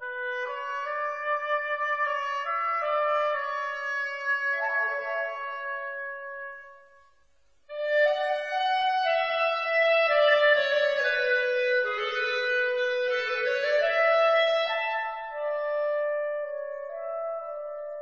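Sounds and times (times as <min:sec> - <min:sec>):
slow instrumental music: 0:00.1 - 0:18.0.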